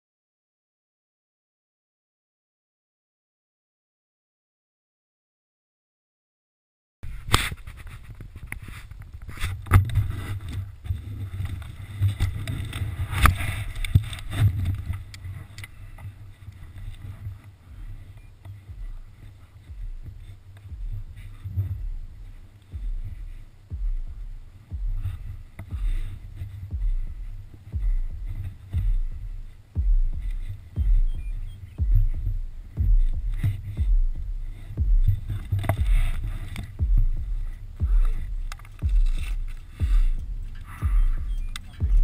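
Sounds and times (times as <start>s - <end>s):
wind buffeting microphone: 7.0s - 42.0s
gear knocking and rustling: 7.4s - 31.2s, 31.8s - 42.0s.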